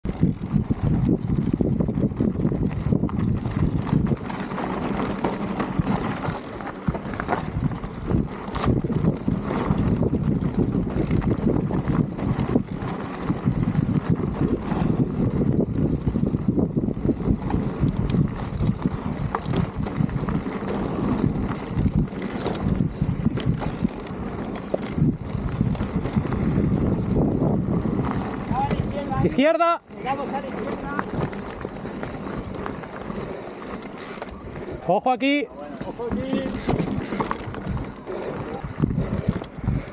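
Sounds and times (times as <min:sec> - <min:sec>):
bike rattling and knocking: 0:00.0 - 0:39.9
wind on microphone: 0:00.0 - 0:39.9
tyres rolling over dirt and stones: 0:00.1 - 0:39.9.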